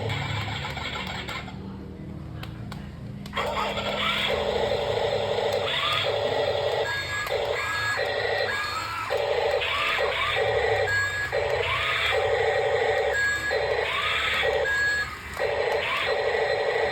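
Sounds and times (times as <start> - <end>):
small electric motors whining: 3.4 - 16.9.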